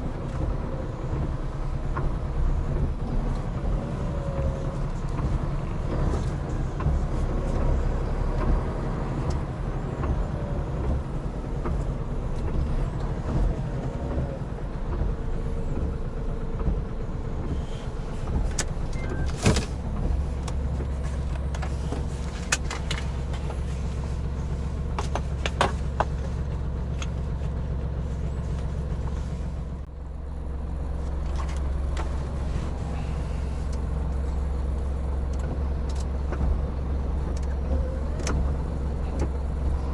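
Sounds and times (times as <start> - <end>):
tyre noise on wet road: 0.0 - 29.9, 30.7 - 39.9
truck engine and road rumble: 0.0 - 39.9.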